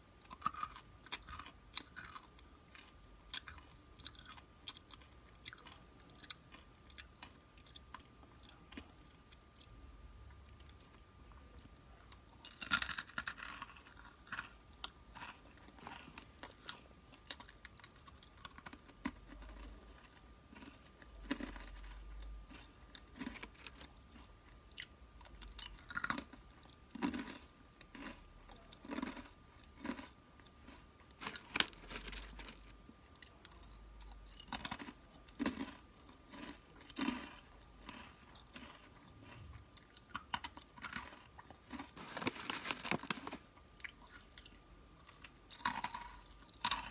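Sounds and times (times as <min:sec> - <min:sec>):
chewing and crunching snacks: 0:00.1 - 0:46.9.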